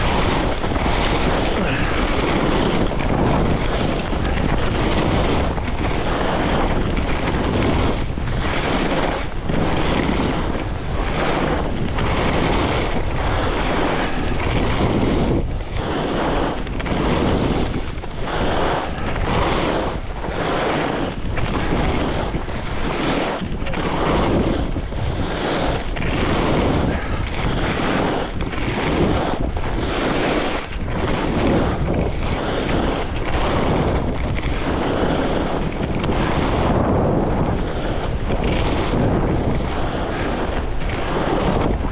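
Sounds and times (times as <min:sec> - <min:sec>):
skis hissing through snow: 0:00.0 - 0:41.9
wind buffeting microphone: 0:00.0 - 0:41.9.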